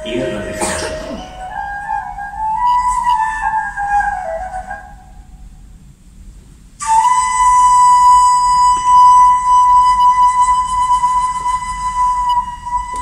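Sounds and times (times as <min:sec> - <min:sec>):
high whistling tone: 0:00.0 - 0:05.4, 0:06.8 - 0:13.0.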